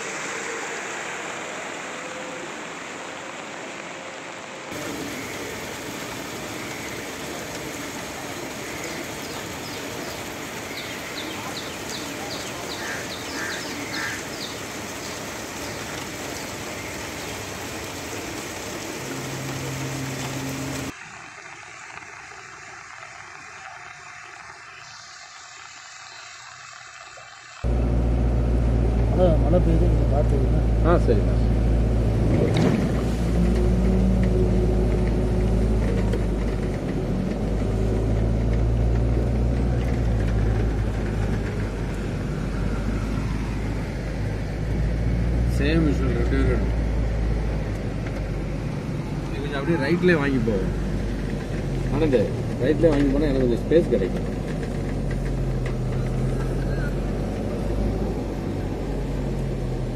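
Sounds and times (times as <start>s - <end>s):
heavy rain falling: 0.0s - 59.9s
vehicle engine humming: 0.0s - 59.9s
water washing on flooded road: 0.0s - 59.9s.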